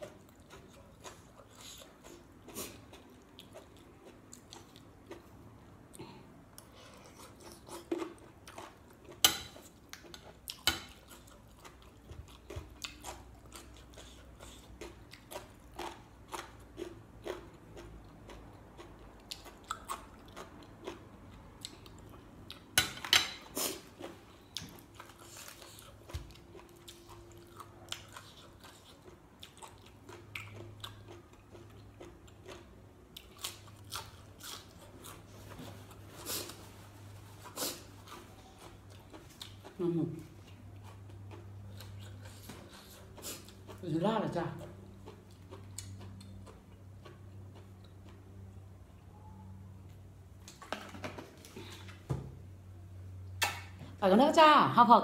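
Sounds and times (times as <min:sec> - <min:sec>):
chewing and crunching: 0:00.0 - 0:49.5.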